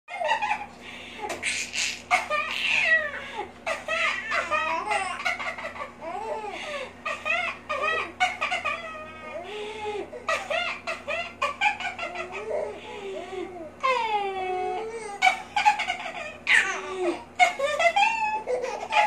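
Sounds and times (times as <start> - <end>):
baby giggling: 0.1 - 9.5, 10.1 - 19.0.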